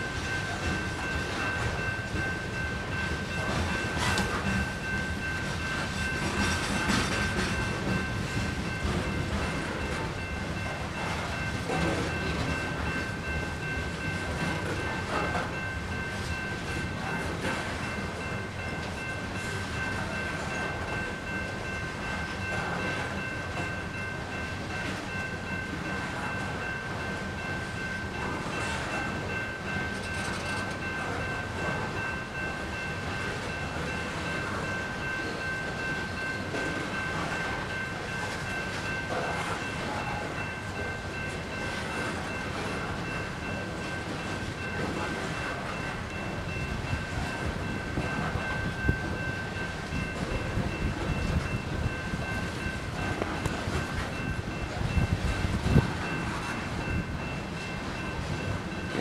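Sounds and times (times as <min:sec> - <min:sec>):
crossing bell ringing: 0:00.0 - 0:59.0.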